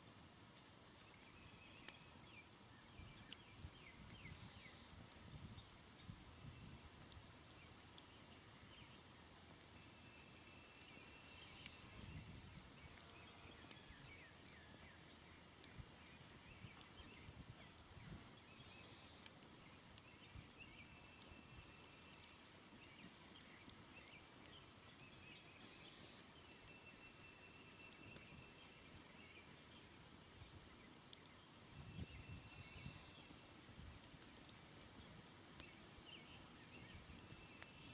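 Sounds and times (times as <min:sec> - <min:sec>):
faint campfire crackling: 0:00.0 - 0:37.9.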